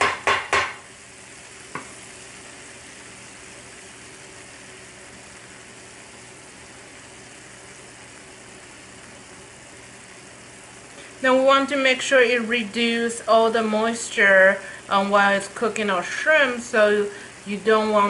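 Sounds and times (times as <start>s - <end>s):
shrimp sizzling in frying pan: 0.0s - 18.0s.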